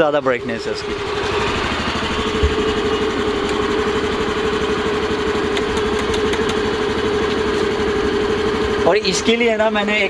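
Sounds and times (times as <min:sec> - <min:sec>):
scooter engine idling: 0:00.0 - 0:10.0.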